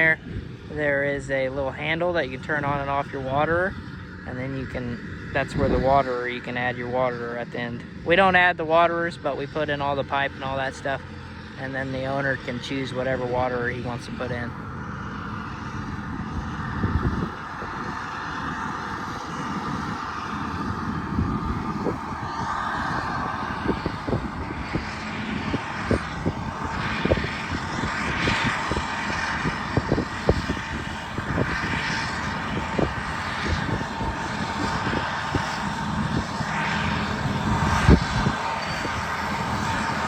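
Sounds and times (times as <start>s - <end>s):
diesel engines under load: 0.0s - 40.0s.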